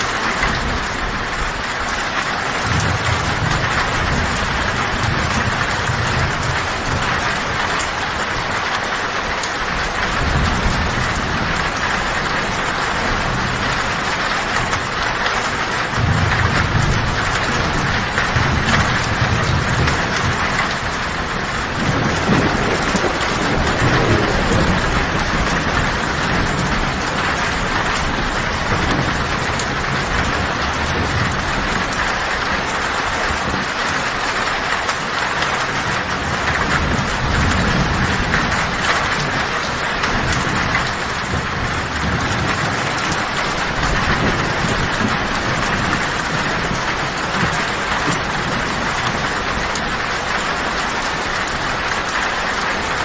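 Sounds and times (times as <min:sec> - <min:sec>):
heavy rain on a tin roof: 0:00.0 - 0:53.0
low thunder rumbling: 0:00.0 - 0:53.0.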